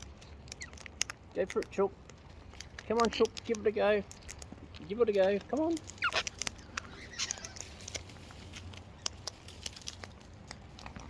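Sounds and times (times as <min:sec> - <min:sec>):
cockatoos scratching and tapping: 0:00.0 - 0:11.0
rustle: 0:00.0 - 0:11.0.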